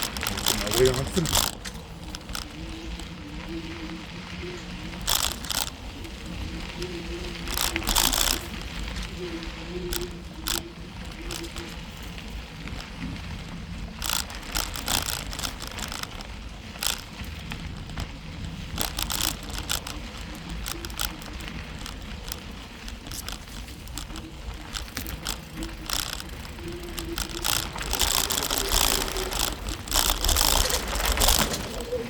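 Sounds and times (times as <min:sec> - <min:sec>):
bicycle clicks and rattles: 0:00.0 - 0:32.0
tyres rumbling: 0:00.0 - 0:32.0
wind: 0:00.0 - 0:32.0.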